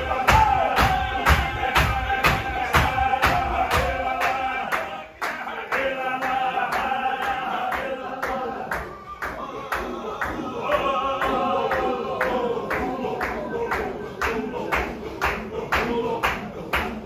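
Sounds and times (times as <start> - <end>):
hand claps: 0.0 - 17.0
men chanting together: 0.0 - 17.0.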